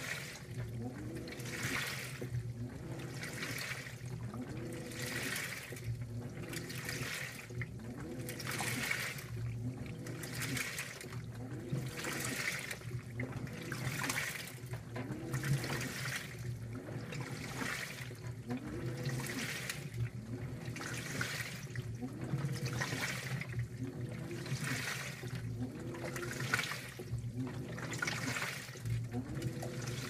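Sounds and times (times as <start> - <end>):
washer motor whine: 0.0 - 30.0
water and clothes sloshing: 0.0 - 30.0.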